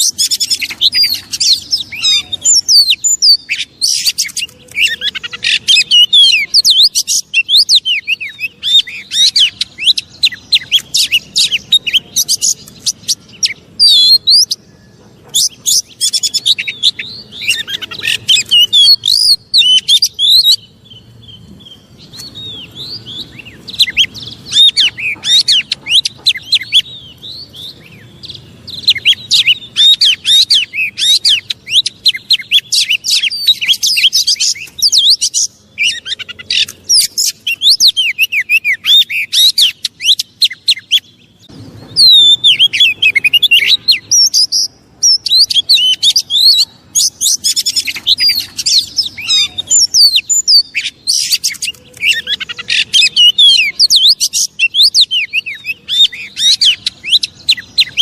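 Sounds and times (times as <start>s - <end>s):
bird singing chirps and whistles: 0.0s - 58.0s.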